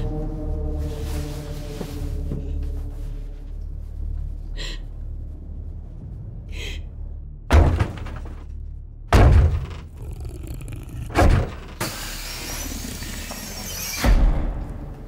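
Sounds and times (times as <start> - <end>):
dark droning horror score: 0.0 - 15.0.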